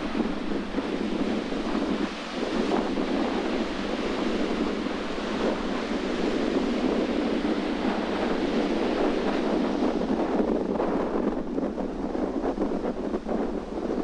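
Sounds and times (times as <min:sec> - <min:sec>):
ocean waves breaking: 0:00.0 - 0:14.0
wind buffeting microphone: 0:00.0 - 0:14.0.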